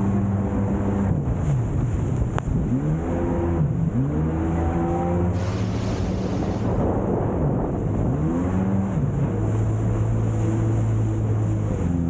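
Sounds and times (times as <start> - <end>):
jet ski engine running: 0.0 - 12.0
water spray rushing along hull: 0.0 - 12.0.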